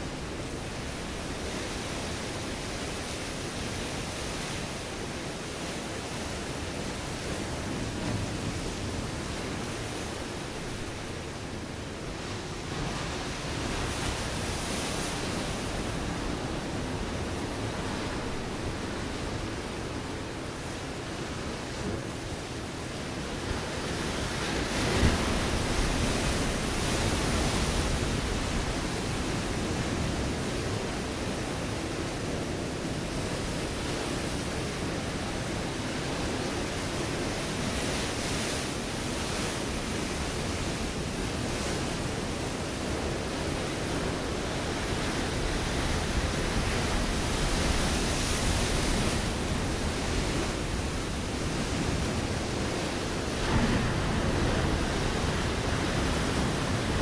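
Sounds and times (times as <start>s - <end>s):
ocean waves breaking on rocks: 0.0s - 57.0s.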